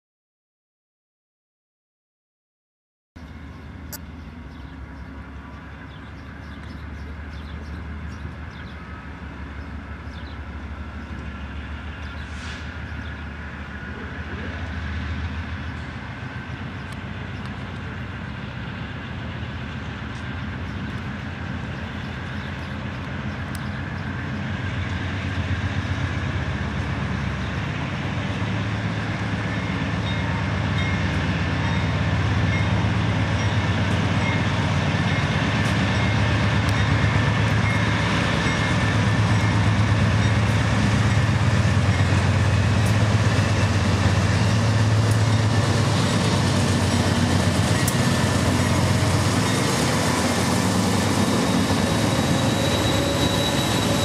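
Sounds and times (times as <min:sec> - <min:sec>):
diesel locomotive engines rumbling: 0:03.2 - 0:54.0.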